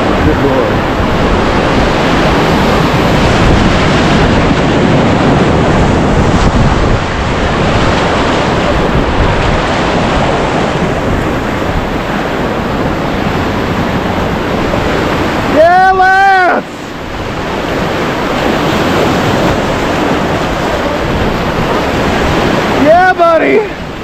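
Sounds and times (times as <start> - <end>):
whitewater rushing: 0.0 - 24.0
wind buffeting microphone: 0.0 - 24.0.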